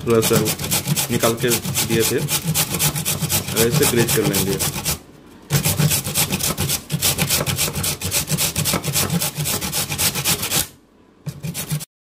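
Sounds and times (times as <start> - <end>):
carrot grating on steel grater: 0.0 - 10.7, 11.3 - 11.9.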